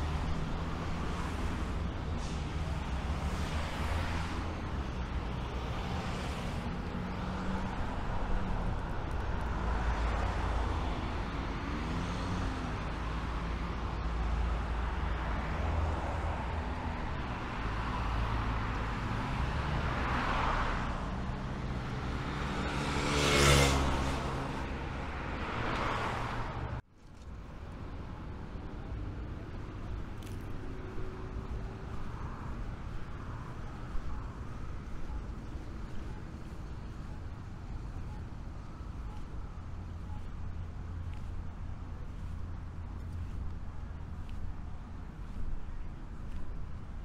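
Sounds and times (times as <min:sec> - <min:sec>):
cars passing: 0:00.0 - 0:47.0.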